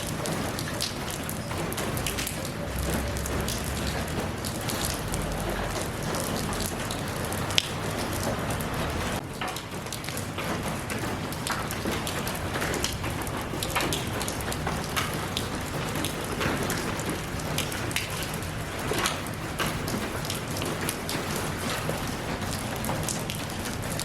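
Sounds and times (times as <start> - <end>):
raindrops striking close by: 0.0 - 24.0
steady rain hiss: 0.0 - 24.0.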